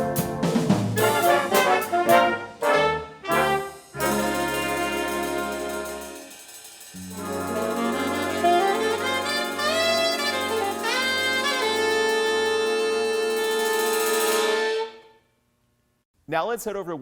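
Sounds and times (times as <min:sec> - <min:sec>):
brass-toned instrumental music: 0:00.0 - 0:15.2.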